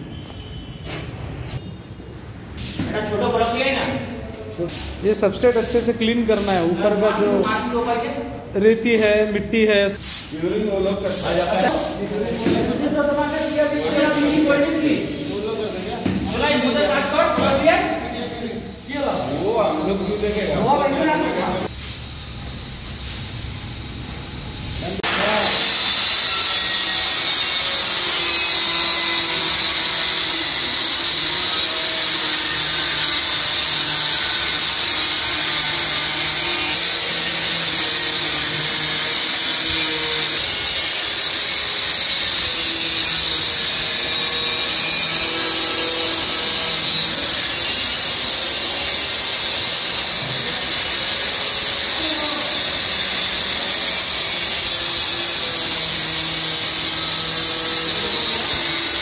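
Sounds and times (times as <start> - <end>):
loud hissing machine noise: 9.9 - 59.0.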